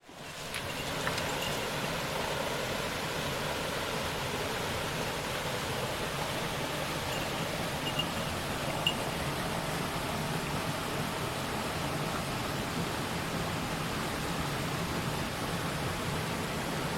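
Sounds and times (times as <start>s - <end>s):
stream water rushing: 0.0s - 16.9s.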